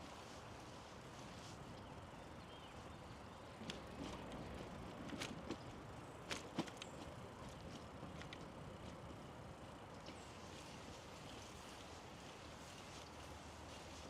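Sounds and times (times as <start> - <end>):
bicycle rolling on pavement: 0.0 - 14.0.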